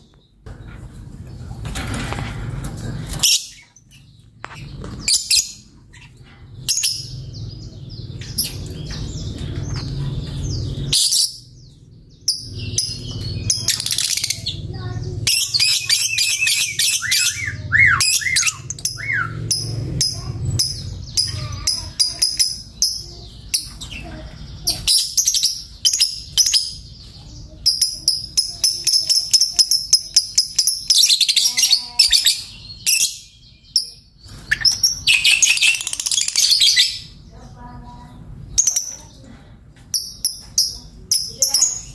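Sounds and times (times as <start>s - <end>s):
lovebird chirping and chattering: 2.8s - 41.9s.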